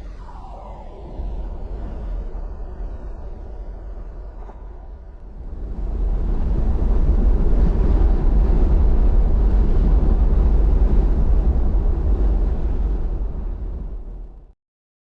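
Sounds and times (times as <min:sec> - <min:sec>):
road and wind noise: 0:00.0 - 0:14.5.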